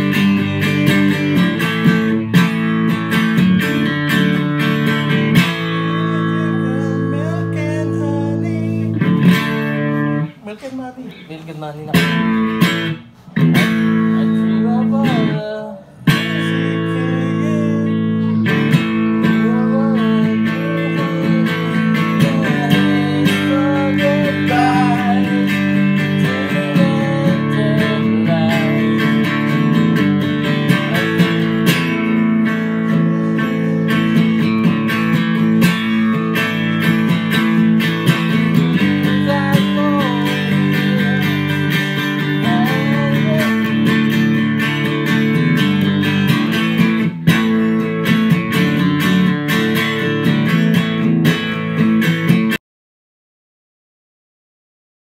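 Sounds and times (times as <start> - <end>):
electric guitar music: 0.0 - 10.4, 11.9 - 52.6.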